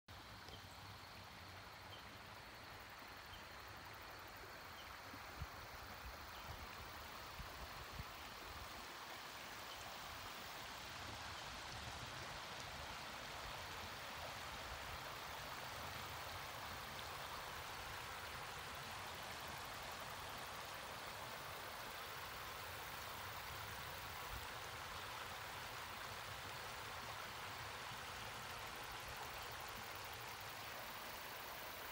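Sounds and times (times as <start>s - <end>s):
river water trickling over gravel: 0.1s - 31.9s.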